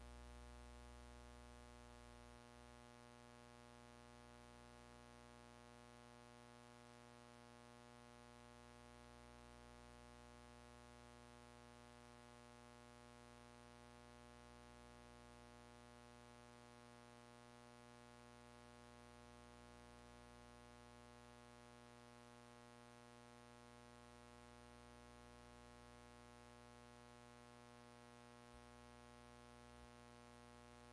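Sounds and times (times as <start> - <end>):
faint electrical hum and buzz: 0.0 - 30.9.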